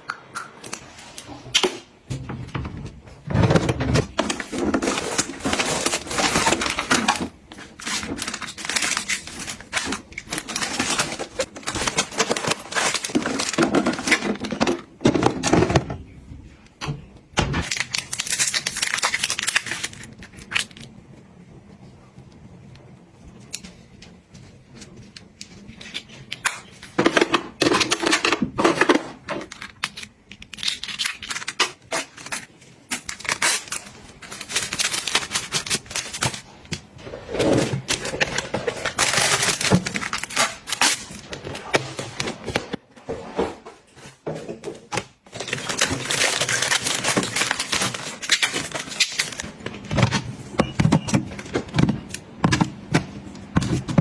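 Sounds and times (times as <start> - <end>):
packaging crinkling and rustling: 2.8 - 16.1, 17.6 - 21.2, 23.4 - 54.0.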